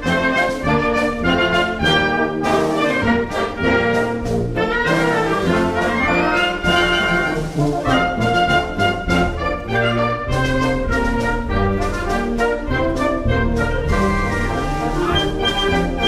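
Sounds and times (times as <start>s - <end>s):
military wind band playing: 0.0s - 16.0s.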